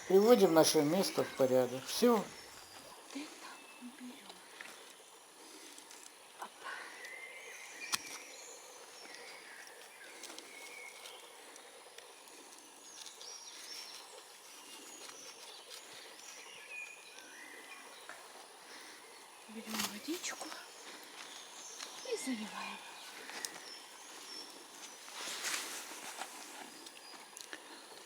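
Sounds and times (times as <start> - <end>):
wild birds chirping and whistling: 0.0 - 5.8, 6.4 - 25.9
faint forest background noise: 0.0 - 28.0.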